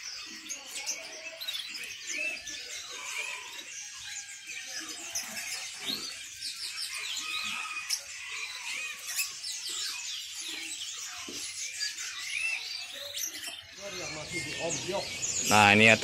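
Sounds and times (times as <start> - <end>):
canaries singing: 0.0 - 16.0.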